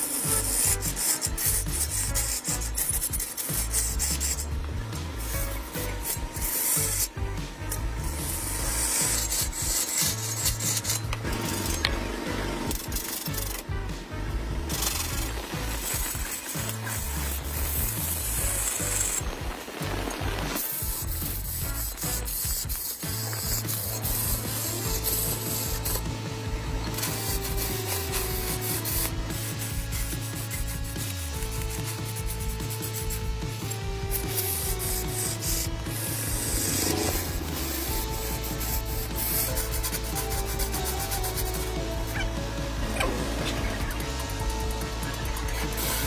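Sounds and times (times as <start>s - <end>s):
lathe tool scraping spinning log: 0.0s - 46.0s.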